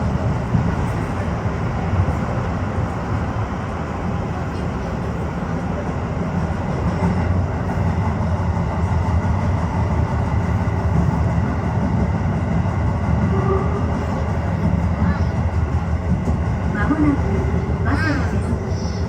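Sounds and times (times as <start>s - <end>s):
subway train wheels rumbling on rail: 0.0s - 19.0s.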